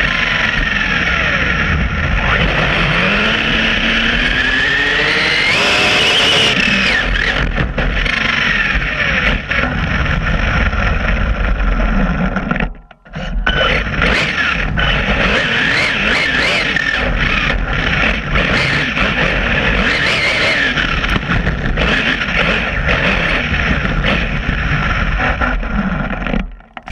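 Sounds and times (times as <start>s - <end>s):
high electric motor whine: 0.0s - 26.9s.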